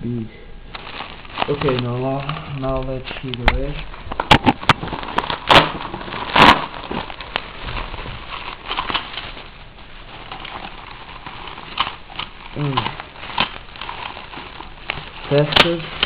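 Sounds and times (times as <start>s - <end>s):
bubble wrap crinkling: 0.7s - 16.0s.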